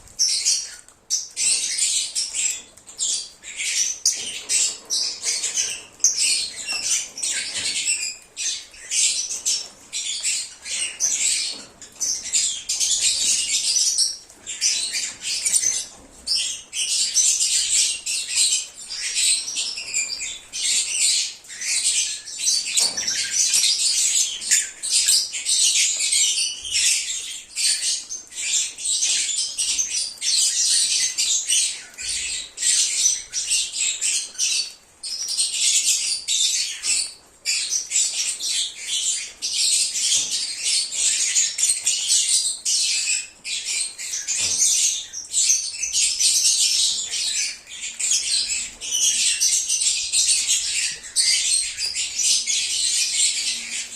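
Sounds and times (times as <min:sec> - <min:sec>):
lovebirds chattering and screeching: 0:00.0 - 0:53.9.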